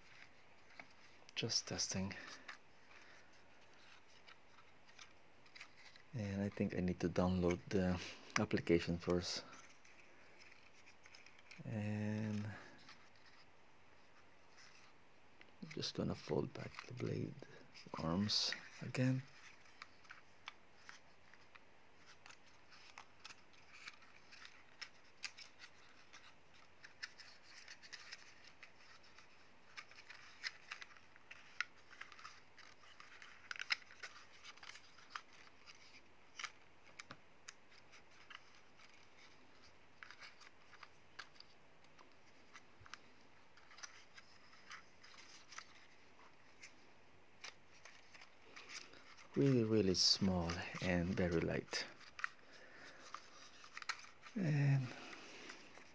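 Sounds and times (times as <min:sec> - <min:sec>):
plastic clicks and scrapes: 0:00.0 - 0:06.7, 0:07.4 - 0:11.6, 0:15.6 - 0:46.8, 0:47.4 - 0:55.9.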